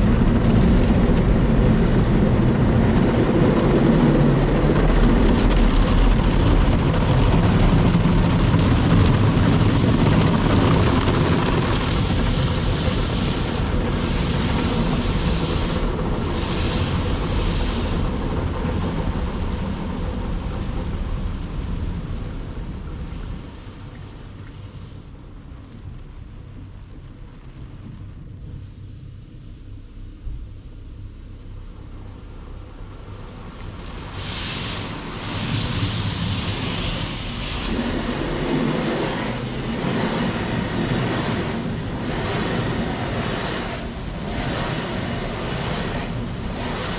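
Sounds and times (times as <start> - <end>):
car wash water spray rushing: 0.0 - 25.6, 31.5 - 46.9
car wash machinery: 0.0 - 46.9.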